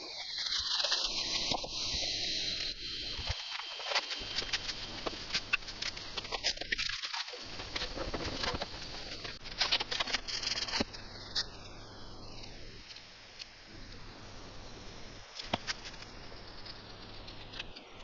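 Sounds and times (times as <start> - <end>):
scratching and crackling on foam: 0.0 - 18.0.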